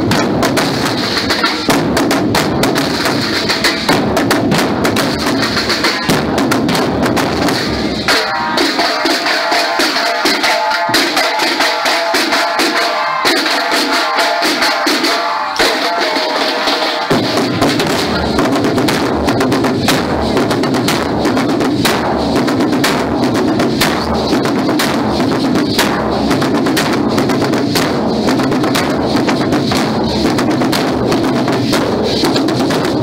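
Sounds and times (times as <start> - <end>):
bass drums: 0.0 - 33.0
snare drums: 0.0 - 33.0.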